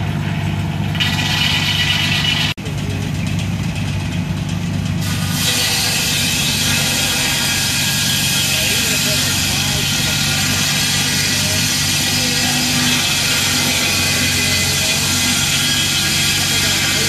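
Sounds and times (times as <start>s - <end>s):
saw blade cutting log: 0.0s - 2.6s, 4.9s - 17.0s
engine droning: 0.0s - 17.0s.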